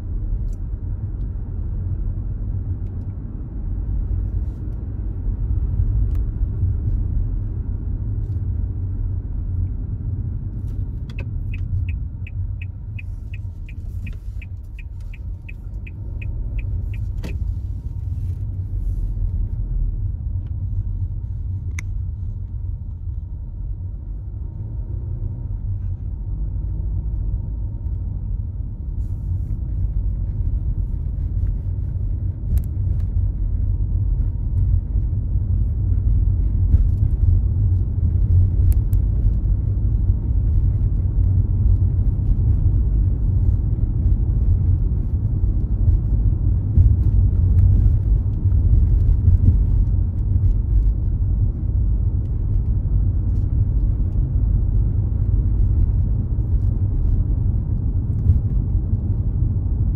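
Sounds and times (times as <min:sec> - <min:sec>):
car road rumble inside cabin: 0:00.0 - 0:59.9.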